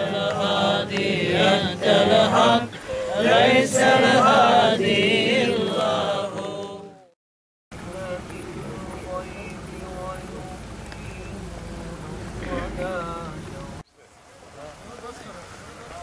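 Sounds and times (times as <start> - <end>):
voices chanting religious recitation: 0.0 - 7.2, 7.8 - 13.8.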